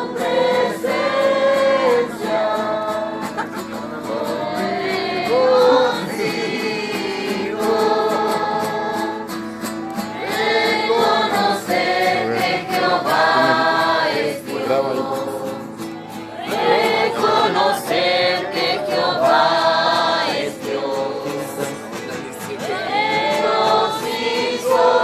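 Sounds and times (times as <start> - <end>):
group singing worship chorus: 0.0 - 25.0.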